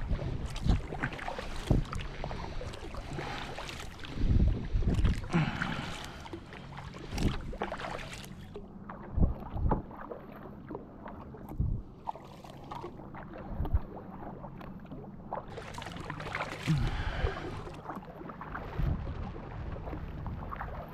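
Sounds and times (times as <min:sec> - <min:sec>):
paddle splashing water: 0:00.0 - 0:20.9.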